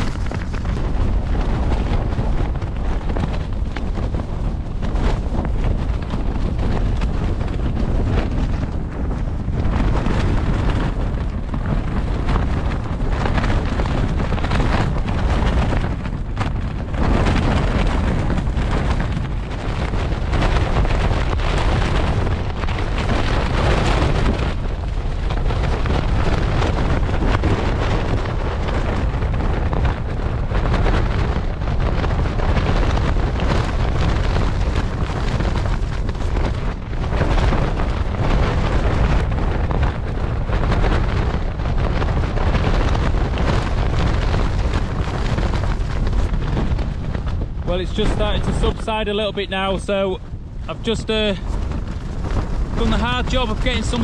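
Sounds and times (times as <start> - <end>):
strong wind rushing: 0.0 - 54.0
tent fabric flapping: 0.0 - 54.0
wind buffeting microphone: 0.0 - 54.0.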